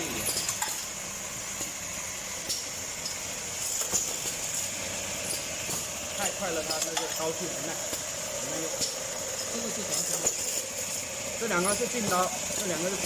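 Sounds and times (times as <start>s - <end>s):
machine hum with high hiss: 0.0s - 13.0s.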